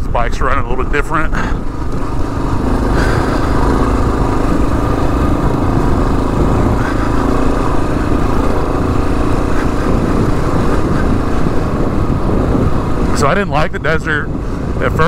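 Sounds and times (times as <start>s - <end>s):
motorcycle engine running: 0.2s - 15.0s.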